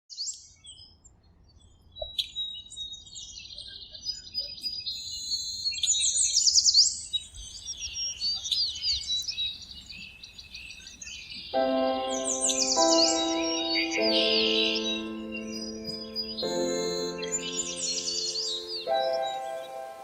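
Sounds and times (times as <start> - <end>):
songbirds chirping: 0.4 - 20.0.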